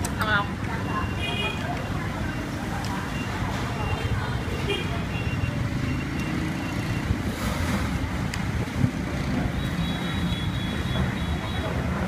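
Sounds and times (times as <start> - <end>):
motorbikes passing on wet road: 1.6 - 12.0.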